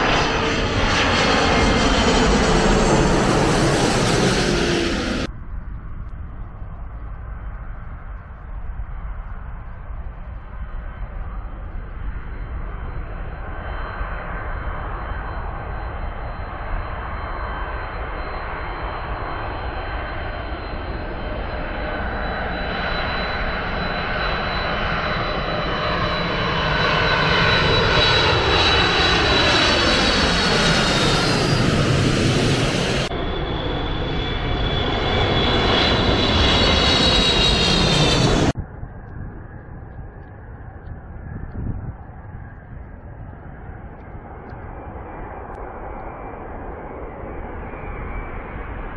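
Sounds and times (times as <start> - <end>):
jet airliner passing overhead: 0.0 - 48.9.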